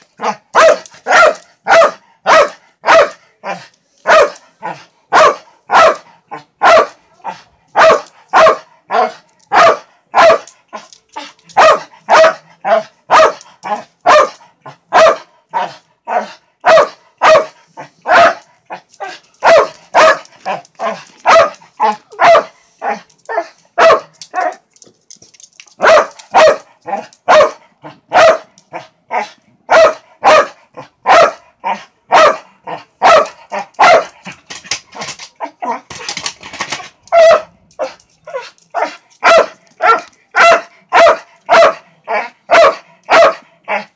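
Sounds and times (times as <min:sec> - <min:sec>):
dog barking: 0:00.2 - 0:10.5, 0:11.6 - 0:24.6, 0:25.8 - 0:34.2, 0:37.1 - 0:43.9.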